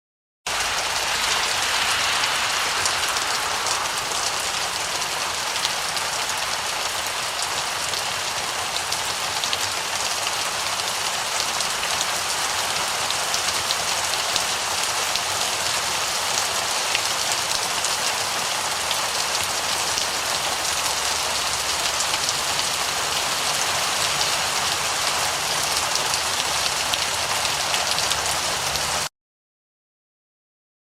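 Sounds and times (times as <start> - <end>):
heavy rain falling: 0.5 - 29.1.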